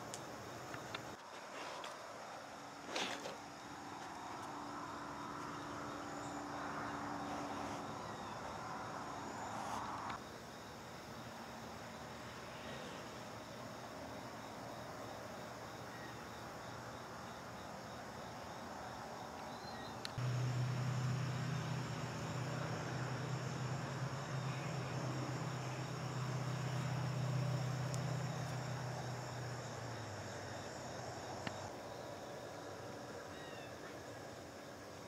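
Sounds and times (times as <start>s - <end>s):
insects chirping: 0.0s - 35.0s.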